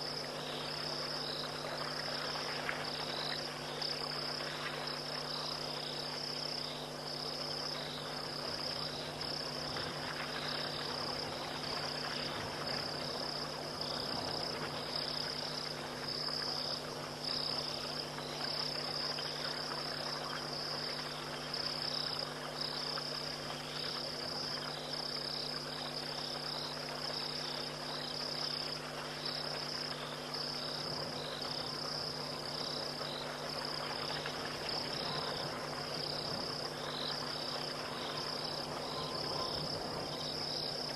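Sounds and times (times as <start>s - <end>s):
crickets trilling: 0.0s - 40.9s
low steady hum: 0.0s - 40.9s.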